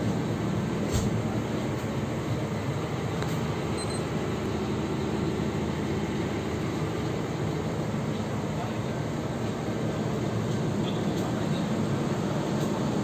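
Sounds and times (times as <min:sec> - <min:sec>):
low mechanical drone in bus cabin: 0:00.0 - 0:13.0.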